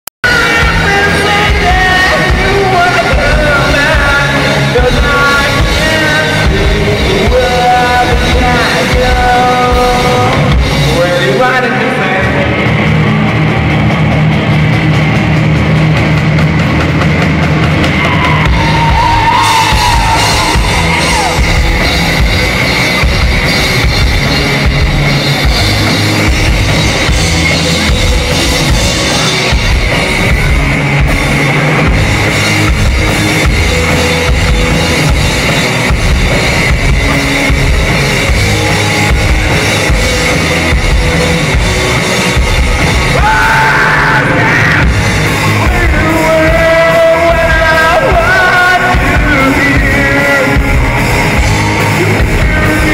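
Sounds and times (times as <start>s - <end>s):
drums and cymbals: 0.2s - 11.6s, 12.2s - 52.9s
live rock band playing: 0.2s - 52.9s.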